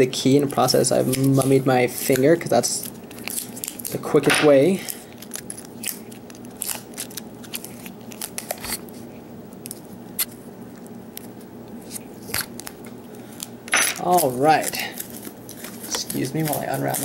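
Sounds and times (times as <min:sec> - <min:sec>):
electrical tape peeling: 0:00.3 - 0:04.1, 0:04.8 - 0:09.0, 0:09.6 - 0:17.0.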